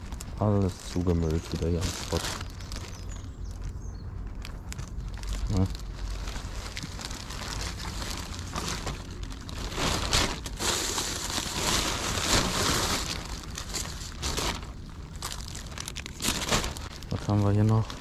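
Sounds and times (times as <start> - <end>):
plastic bin bag rustling: 0.0 - 18.0.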